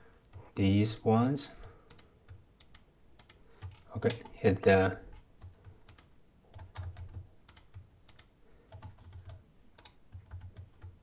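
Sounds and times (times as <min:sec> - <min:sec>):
keyboard and mouse clicking: 0:00.3 - 0:04.4, 0:05.1 - 0:11.0.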